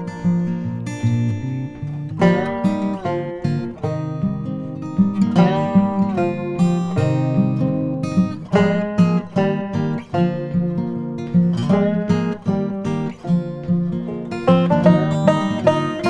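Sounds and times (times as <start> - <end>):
acoustic guitar country music: 0.0 - 16.0.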